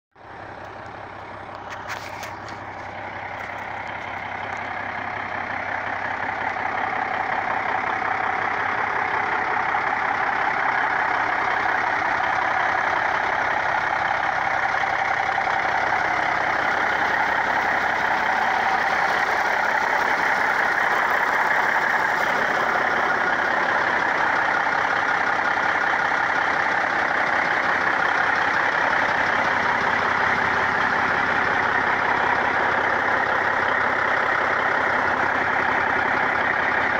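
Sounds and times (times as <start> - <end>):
diesel truck engine idling: 0.2 - 36.9.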